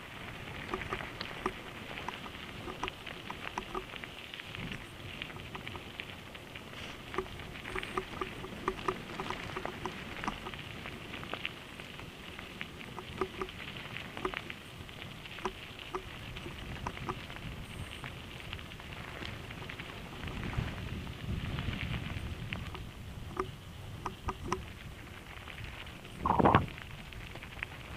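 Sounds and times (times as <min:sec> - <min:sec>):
low wind rumble: 0:00.0 - 0:27.9
stones and bike rattling: 0:00.0 - 0:27.9.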